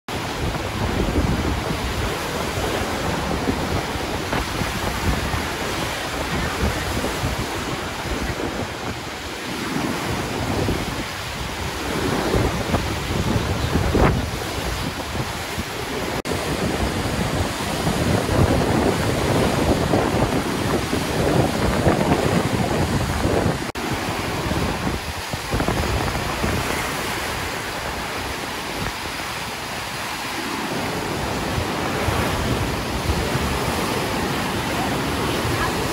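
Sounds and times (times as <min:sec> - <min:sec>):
river rapids roaring: 0:00.1 - 0:35.9
wind buffeting microphone: 0:00.1 - 0:35.9.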